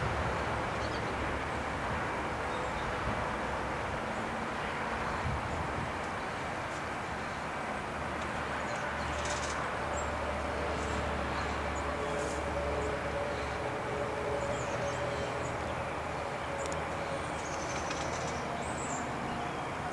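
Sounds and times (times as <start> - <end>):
outdoor background rumble: 0.0 - 19.9.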